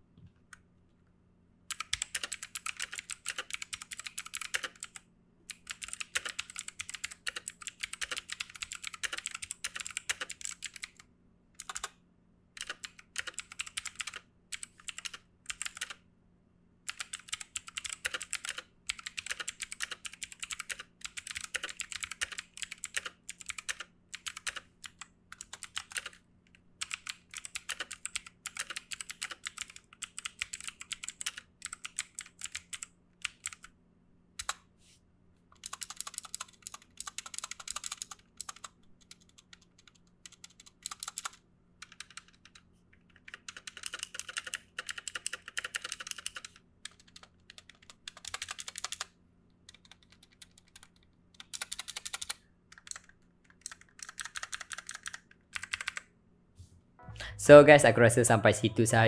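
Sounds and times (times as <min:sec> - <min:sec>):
mechanical keyboard typing: 0:01.7 - 0:11.0, 0:11.6 - 0:12.0, 0:12.6 - 0:16.0, 0:16.9 - 0:33.7, 0:34.4 - 0:34.6, 0:35.6 - 0:56.1.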